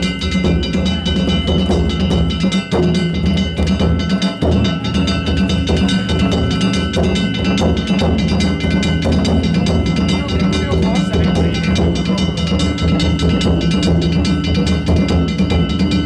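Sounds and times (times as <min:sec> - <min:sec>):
small hand gongs ringing: 0:00.0 - 0:16.0
taiko drums beating: 0:00.0 - 0:16.0.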